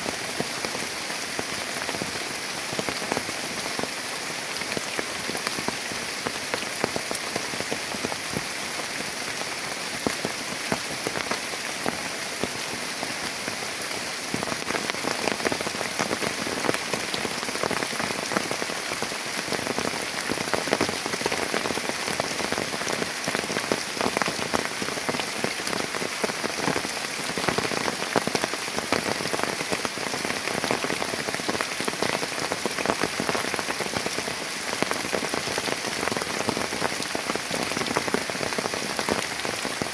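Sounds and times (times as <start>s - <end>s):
heavy rain falling: 0.0s - 39.9s
raindrops hitting close by: 0.0s - 39.9s.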